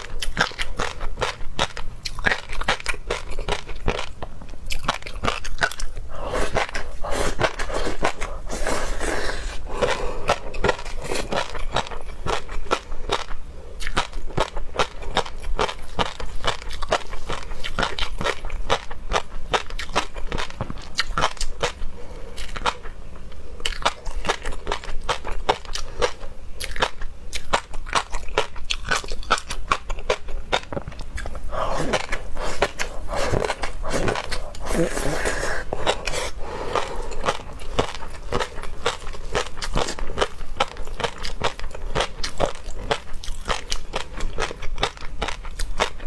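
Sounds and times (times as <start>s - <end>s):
person chewing crunchy food: 0.0s - 46.0s.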